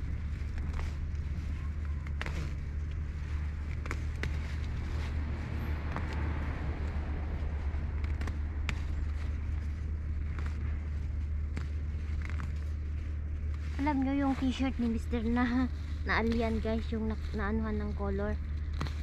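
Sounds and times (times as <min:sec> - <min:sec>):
leaves and stems rustling: 0:00.0 - 0:19.0
low rumble: 0:00.0 - 0:19.0.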